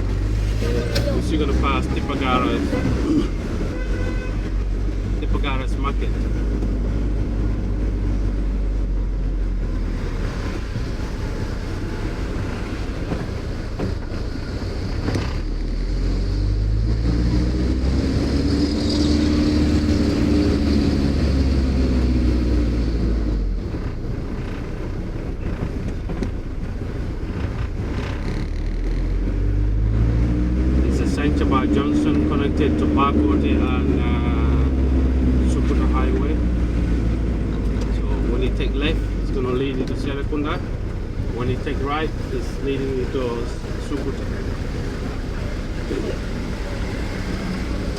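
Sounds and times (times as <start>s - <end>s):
car engine accelerating: 0.0s - 47.9s
road rumble: 0.0s - 47.9s.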